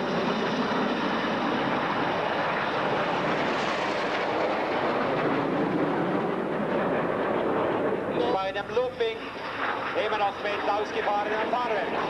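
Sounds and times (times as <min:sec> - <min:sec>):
jets flying past: 0:00.0 - 0:12.0.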